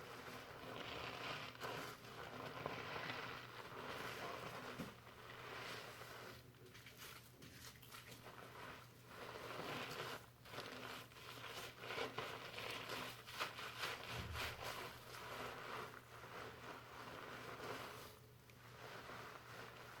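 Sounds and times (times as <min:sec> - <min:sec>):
fingers scrubbing shampoo lather: 0:00.0 - 0:20.0.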